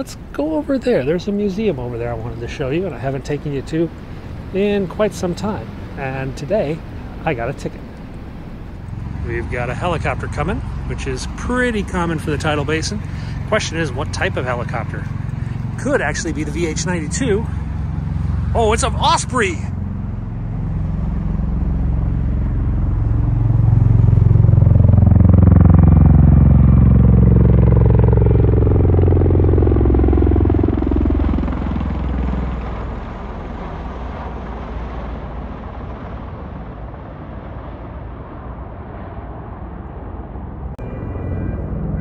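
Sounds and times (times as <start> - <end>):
aircraft rotor and engine drone: 0.0 - 42.0.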